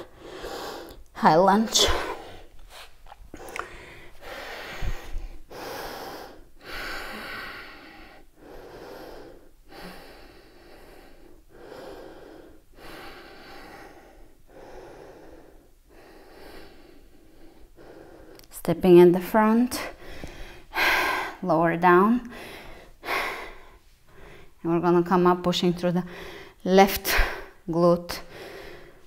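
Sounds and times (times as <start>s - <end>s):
woman breathing hard: 0.0s - 1.0s, 1.8s - 18.4s, 19.8s - 21.4s, 22.2s - 24.6s, 26.1s - 27.6s, 28.2s - 29.0s.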